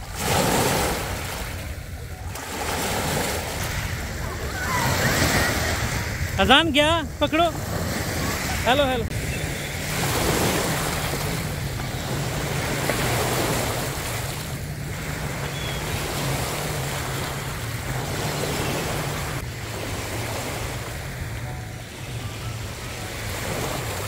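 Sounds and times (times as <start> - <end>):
wind gusting on microphone: 0.0 - 21.4
waves washing onto beach: 0.0 - 24.0.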